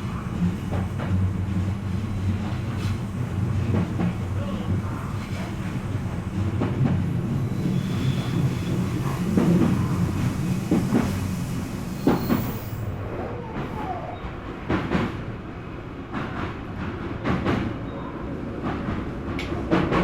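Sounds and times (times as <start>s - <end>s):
train running low rumble: 0.0s - 20.0s.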